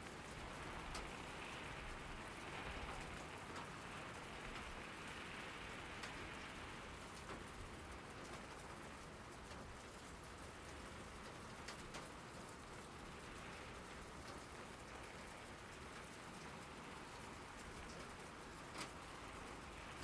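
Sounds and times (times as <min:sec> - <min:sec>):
rain falling on a surface: 0:00.0 - 0:20.0.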